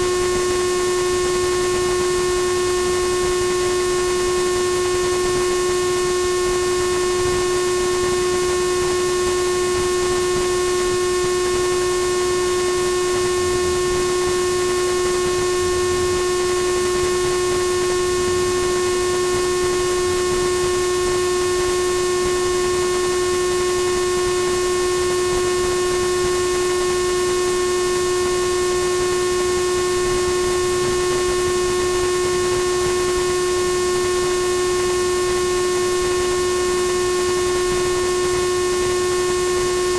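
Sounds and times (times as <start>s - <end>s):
steady droning tone: 0.0s - 39.9s.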